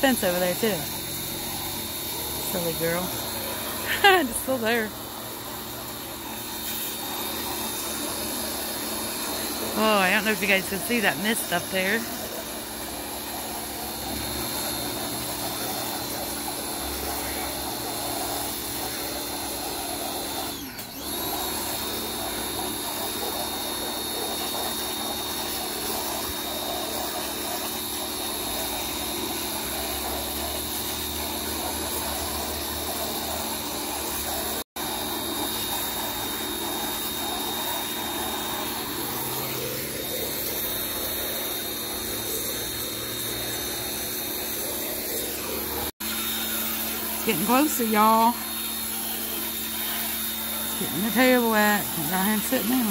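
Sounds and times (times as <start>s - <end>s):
pressure washer motor whining: 0.0s - 52.9s
water spraying siding: 0.0s - 52.9s.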